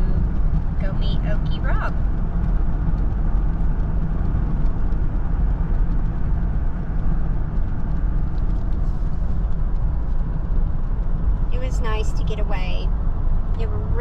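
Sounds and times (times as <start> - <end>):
car engine and tyre noise: 0.0 - 14.0.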